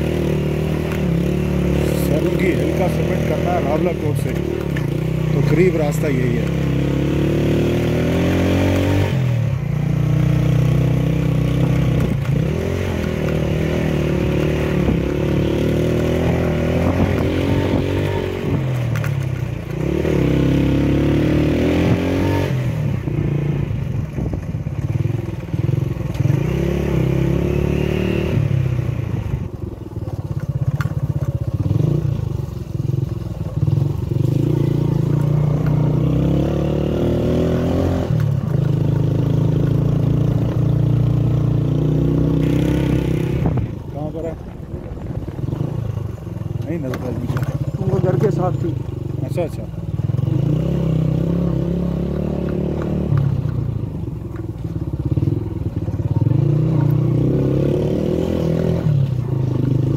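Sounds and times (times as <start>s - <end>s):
vehicle engine accelerating: 0.0s - 29.6s, 30.2s - 59.9s.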